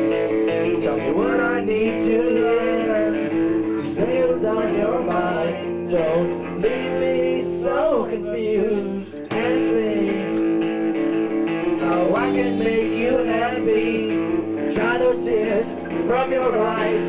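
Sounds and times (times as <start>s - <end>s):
man singing into microphone: 0.0s - 10.4s, 11.7s - 17.0s
guitar chords: 0.0s - 17.0s.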